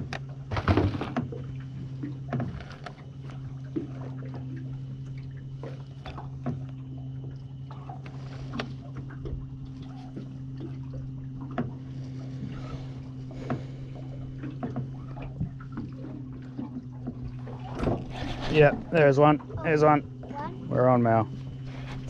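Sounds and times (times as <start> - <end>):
steady low hum: 0.0 - 22.0
water lapping at boat hull: 0.0 - 22.0.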